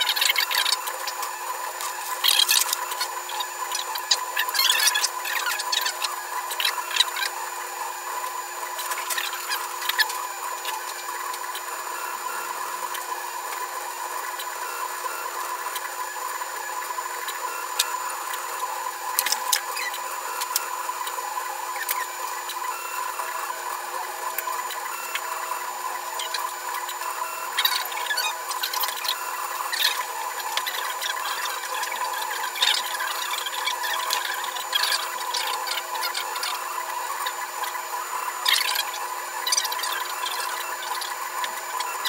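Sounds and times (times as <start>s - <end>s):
printer stepper motors whining: 0.0s - 42.0s.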